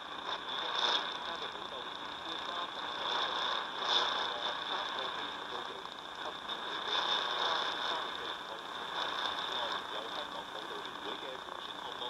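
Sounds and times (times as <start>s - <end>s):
faint radio speech: 0.0s - 12.0s
radio static hiss: 0.0s - 12.0s.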